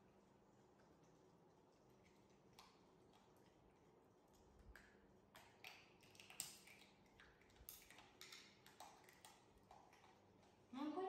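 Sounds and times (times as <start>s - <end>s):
monkeys eating clicks and taps: 0.6s - 10.7s.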